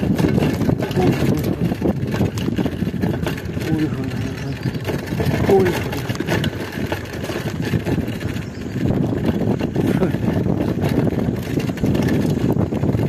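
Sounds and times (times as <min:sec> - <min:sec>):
bike tyres rattling over gravel: 0:00.0 - 0:13.0.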